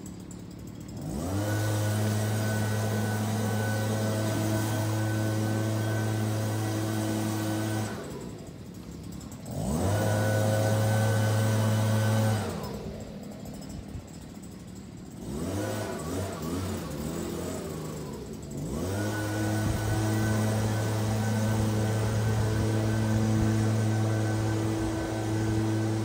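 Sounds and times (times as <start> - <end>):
small petrol engine running: 0.0 - 26.0.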